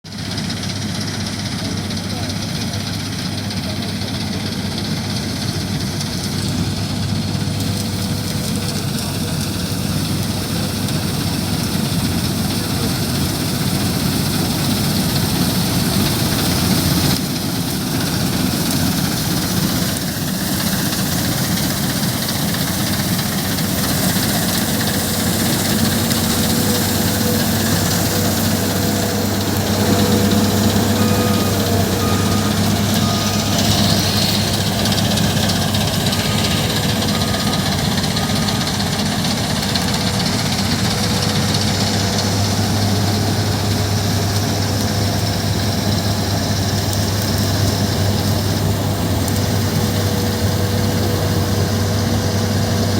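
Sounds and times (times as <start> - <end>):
farm machinery engine running: 0.1 - 52.9.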